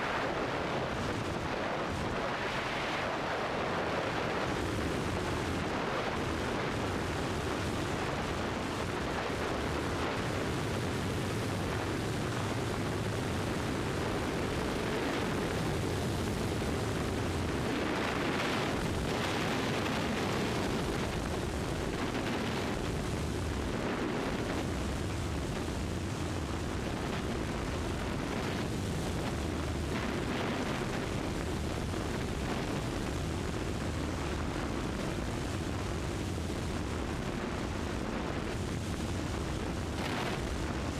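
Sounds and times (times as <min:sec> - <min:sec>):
airplane engine drone: 0:00.0 - 0:40.9.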